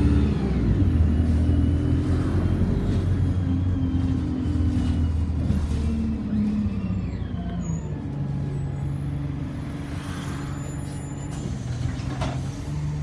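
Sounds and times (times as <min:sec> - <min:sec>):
bus engine from inside: 0:00.0 - 0:13.0.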